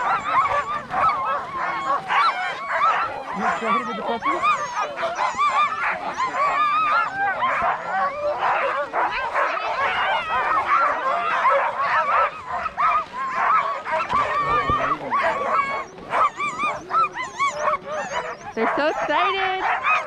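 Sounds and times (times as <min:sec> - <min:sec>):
sled dogs barking and yelping: 0:00.0 - 0:20.0.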